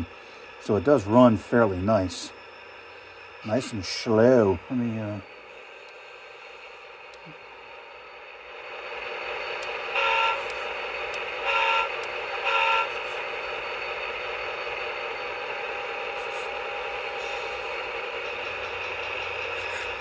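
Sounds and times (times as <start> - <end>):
model train diesel engine sound: 0.0 - 20.0.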